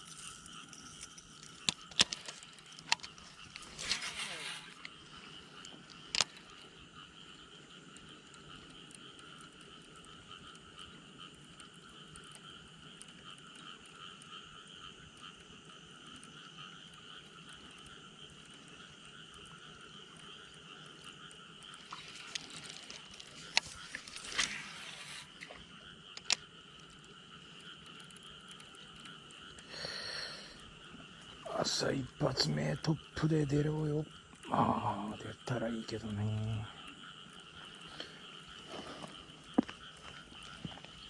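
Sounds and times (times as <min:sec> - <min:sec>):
frogs calling in chorus: 0:00.0 - 0:41.0.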